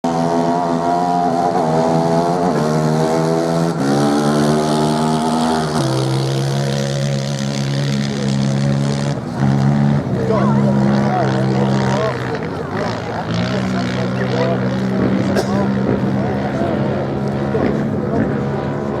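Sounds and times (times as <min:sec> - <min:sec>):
racing motorcycle engines: 0:00.0 - 0:19.0.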